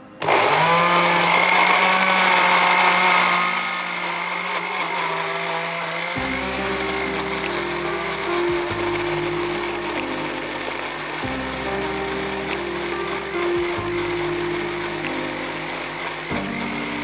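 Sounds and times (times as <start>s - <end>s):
blender motor whining: 0.2s - 17.0s.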